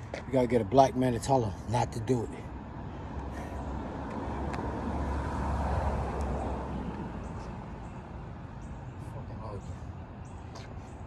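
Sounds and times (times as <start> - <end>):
road vehicle passing by: 0.0 - 11.0.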